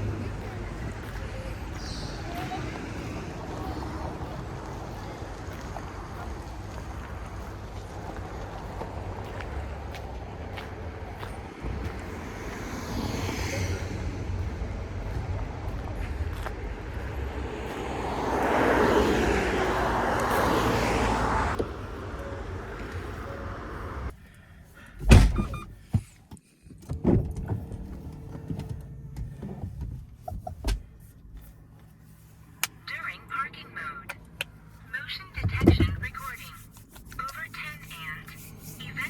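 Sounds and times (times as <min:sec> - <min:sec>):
tyre and wind road noise: 0:00.0 - 0:39.0.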